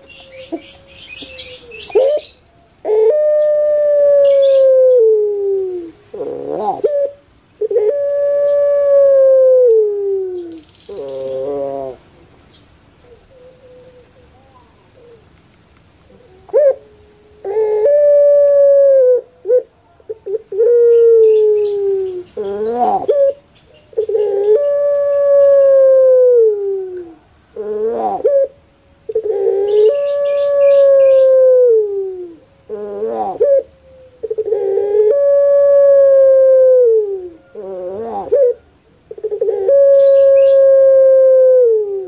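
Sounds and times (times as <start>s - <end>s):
dove cooing: 0.0s - 12.2s, 13.0s - 15.3s, 16.0s - 42.0s.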